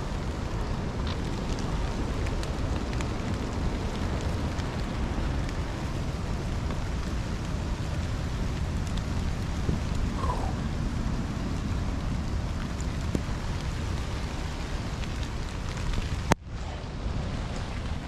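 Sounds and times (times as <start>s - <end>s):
light rain ticks: 0.0s - 18.0s
strong gusting wind: 0.0s - 18.0s.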